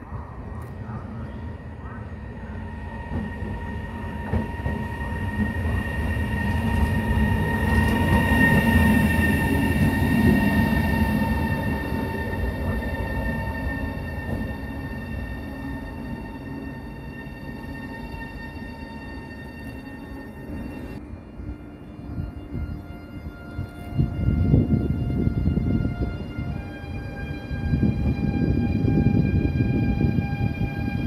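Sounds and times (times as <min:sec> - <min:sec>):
electric locomotive passing: 0:00.0 - 0:31.0.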